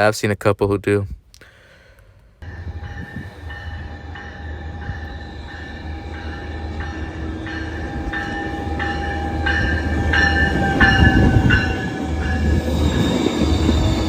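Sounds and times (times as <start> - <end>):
train bell ringing: 2.4 - 14.0
train rumble: 2.4 - 14.0.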